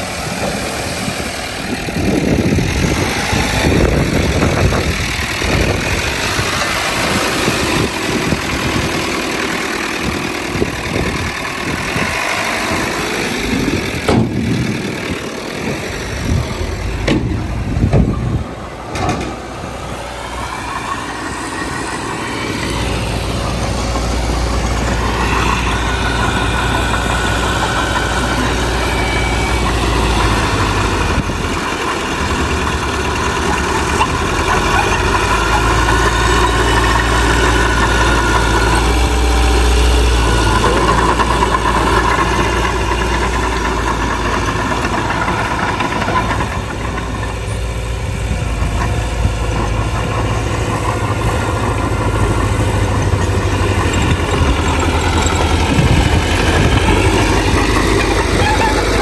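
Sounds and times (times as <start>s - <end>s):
diesel engine of earthmoving machine: 0.0s - 59.0s.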